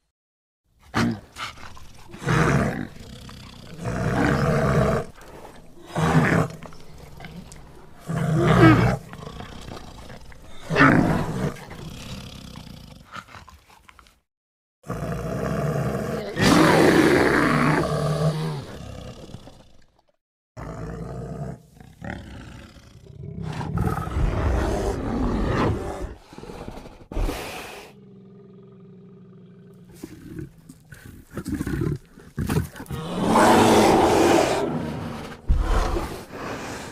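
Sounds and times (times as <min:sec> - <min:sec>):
bear roaring and growling: 0:00.9 - 0:13.0, 0:14.8 - 0:19.7, 0:20.6 - 0:27.1, 0:27.9 - 0:36.9.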